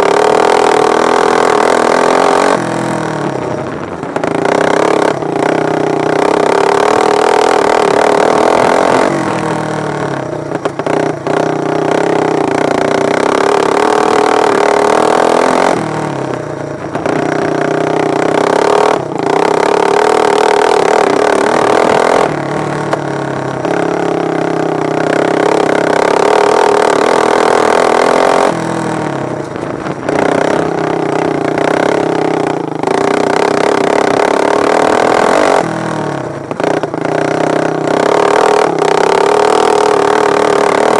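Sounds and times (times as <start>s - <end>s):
lawn mower engines revving: 0.0s - 40.9s.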